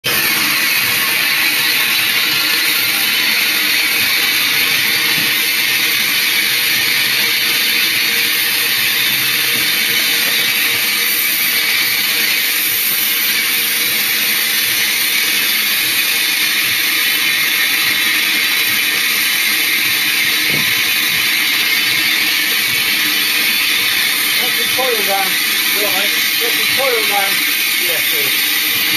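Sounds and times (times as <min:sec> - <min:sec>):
steam hissing: 0:00.0 - 0:28.9.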